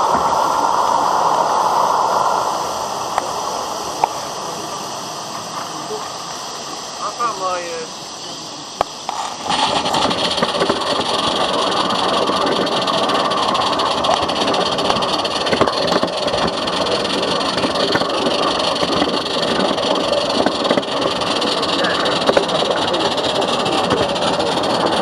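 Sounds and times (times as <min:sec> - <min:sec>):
model train rattling on track: 0:02.4 - 0:25.0.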